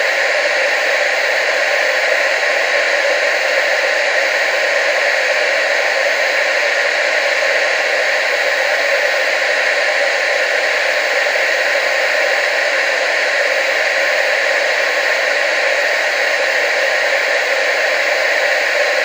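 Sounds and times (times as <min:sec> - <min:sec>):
television static hiss: 0:00.0 - 0:19.0.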